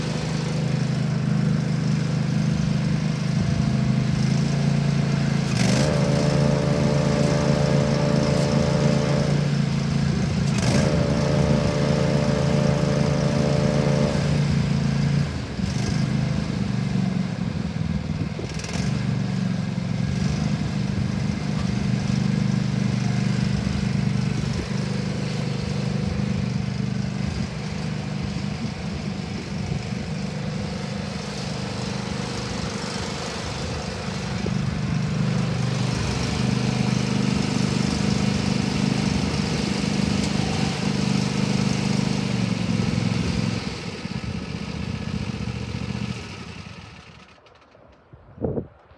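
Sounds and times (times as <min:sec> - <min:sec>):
lawn mower engine running: 0:00.0 - 0:48.0.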